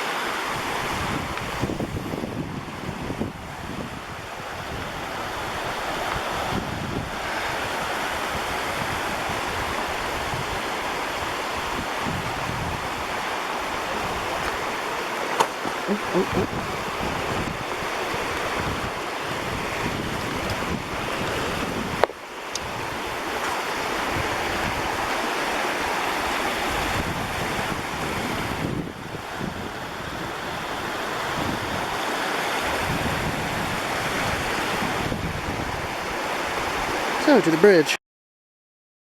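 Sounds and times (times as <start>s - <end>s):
wind buffeting microphone: 0.0s - 37.1s
river water rushing: 0.0s - 38.0s.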